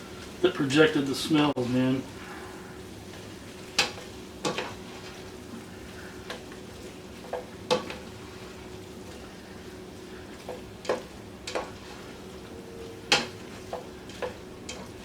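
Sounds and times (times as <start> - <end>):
vegetables sizzling in butter: 0.0 - 15.0.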